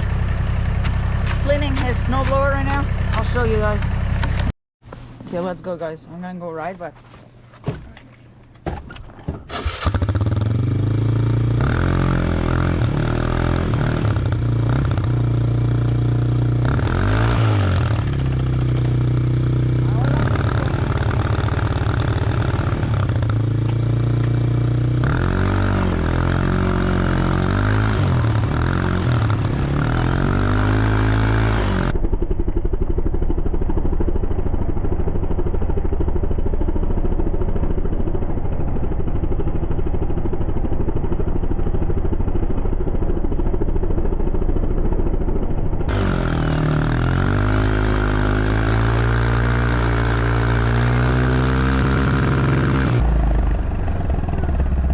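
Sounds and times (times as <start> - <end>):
atv engine revving: 0.0 - 4.5, 9.5 - 45.2, 45.8 - 54.9.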